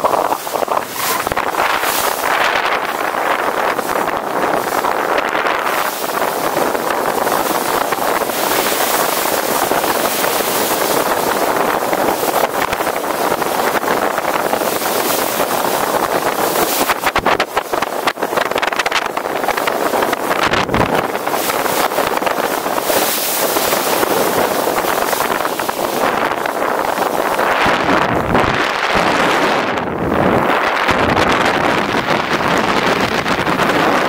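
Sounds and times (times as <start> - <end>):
sharp crackling wind buffets: 0.0 - 34.0
water washing: 0.0 - 34.0
wind rushing over microphone: 0.0 - 34.0.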